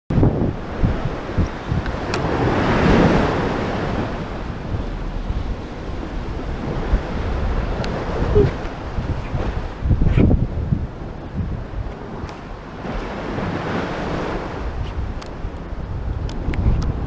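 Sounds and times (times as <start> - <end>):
waves breaking against sea wall: 0.1 - 17.0
wind buffeting microphone: 0.1 - 17.0.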